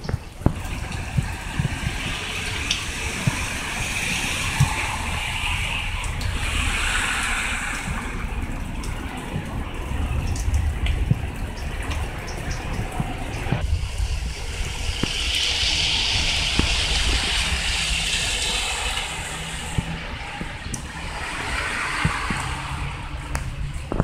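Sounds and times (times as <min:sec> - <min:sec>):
low rumble: 0:00.0 - 0:24.0
rain on pavement and plants: 0:00.0 - 0:24.0
sharp water drips: 0:00.0 - 0:24.0.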